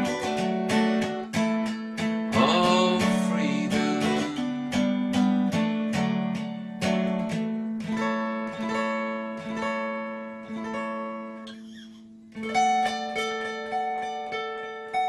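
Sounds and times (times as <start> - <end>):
plucked guitar notes: 0.0 - 15.0.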